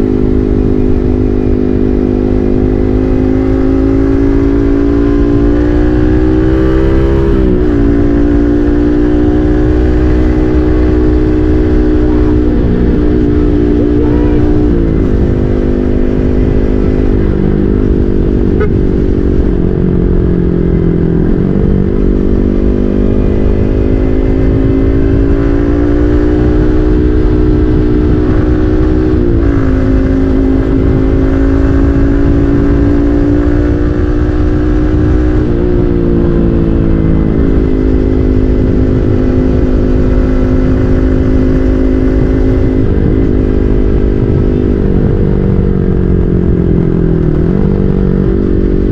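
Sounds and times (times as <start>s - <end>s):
motorcycle engine revving: 0.0s - 48.9s
wind and road noise: 0.0s - 48.9s.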